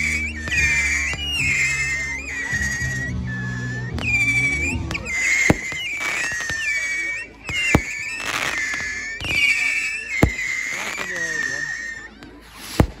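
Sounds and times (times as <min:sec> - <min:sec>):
firework bangs: 0:00.0 - 0:13.0
whistling fireworks: 0:00.0 - 0:13.0.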